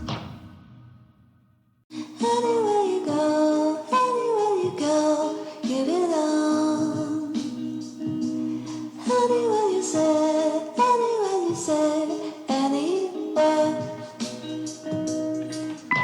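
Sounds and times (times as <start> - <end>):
woman singing song: 1.9 - 16.0.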